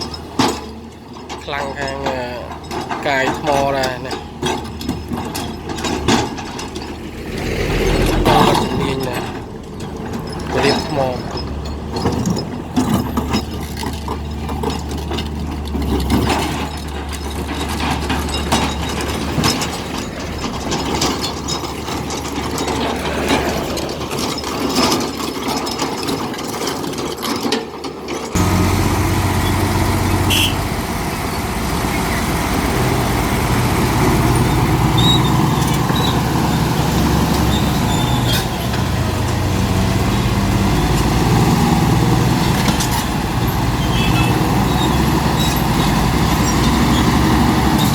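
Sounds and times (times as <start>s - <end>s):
bulldozer diesel engine under load: 0.0s - 47.9s
diesel hum: 0.0s - 47.9s
excavator clattering stone: 0.0s - 47.9s.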